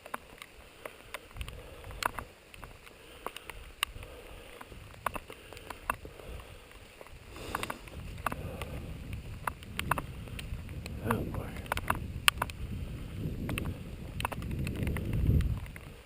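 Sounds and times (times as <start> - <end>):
low wind rumble: 0.0 - 16.0
raindrops ticking: 0.0 - 16.0.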